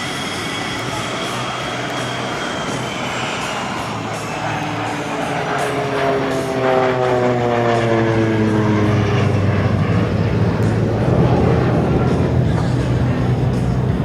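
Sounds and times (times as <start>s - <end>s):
turboprop plane flying past: 0.0s - 14.0s.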